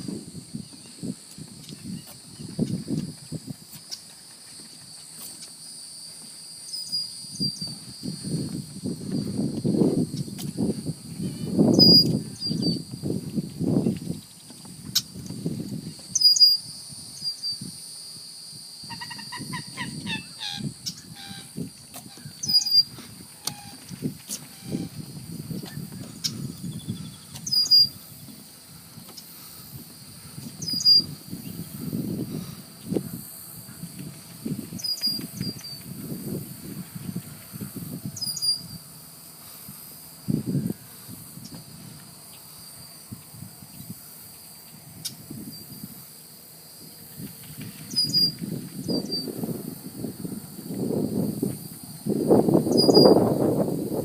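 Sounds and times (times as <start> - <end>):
crickets droning: 0.0 - 54.0
insect chirps: 0.0 - 54.0
low rumbling noise: 6.0 - 17.8, 18.5 - 54.0.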